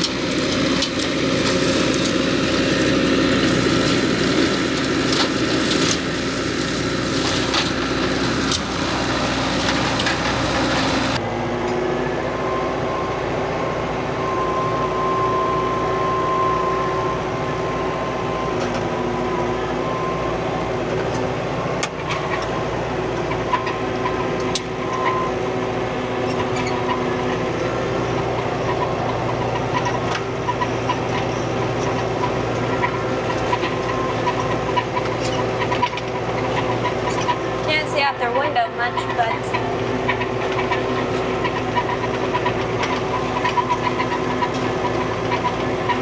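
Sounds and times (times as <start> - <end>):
tractor engine running: 0.0 - 12.5, 17.3 - 46.0.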